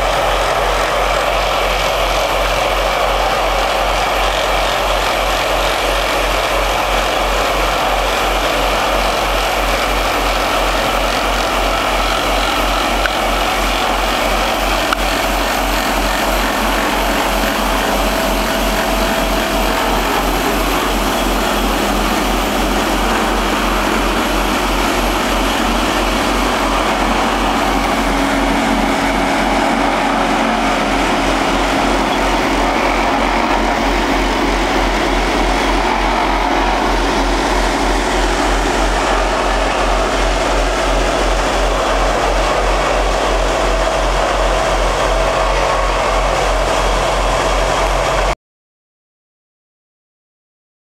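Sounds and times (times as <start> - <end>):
heavy machinery diesel engines: 0.0 - 48.4.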